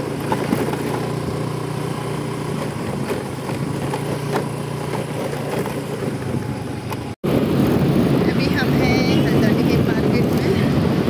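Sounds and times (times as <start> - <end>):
small motorbike engine running: 0.0 - 11.0.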